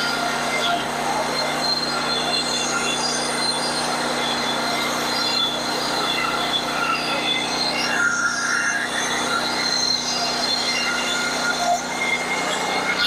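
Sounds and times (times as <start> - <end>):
saw blade whining: 0.0 - 13.0
sawmill engine droning: 0.0 - 13.0.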